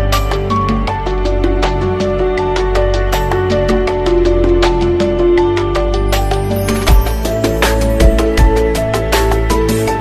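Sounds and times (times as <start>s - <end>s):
music with drum beat: 0.1s - 10.0s.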